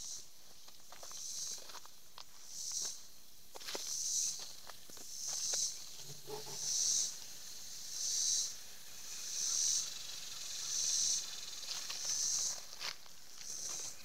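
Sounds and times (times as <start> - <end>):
insects pulsing chorus: 0.9 - 14.0.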